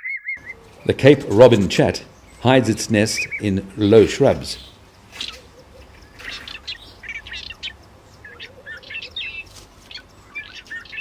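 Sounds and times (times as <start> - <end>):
bird chirping and warbling: 0.0 - 11.0.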